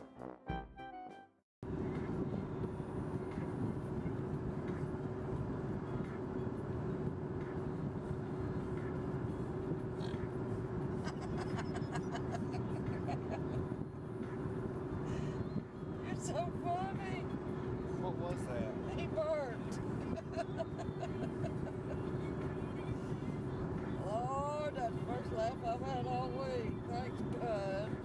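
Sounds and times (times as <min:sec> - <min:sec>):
car cabin road and engine noise: 0:01.6 - 0:28.0.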